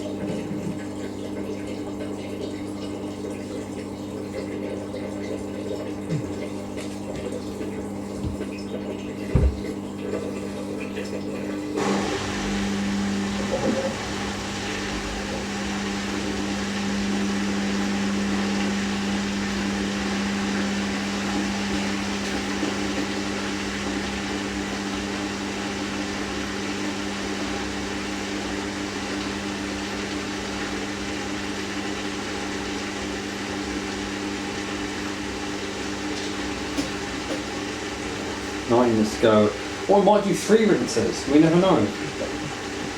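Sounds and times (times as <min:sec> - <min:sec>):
washing machine drain pump humming: 0:00.0 - 0:42.9.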